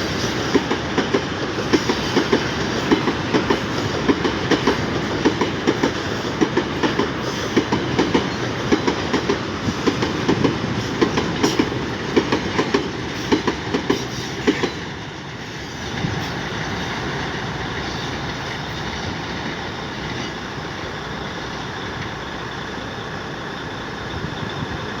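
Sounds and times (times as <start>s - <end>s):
train rumble: 0.0s - 25.0s
train wheels clacking: 0.0s - 25.0s.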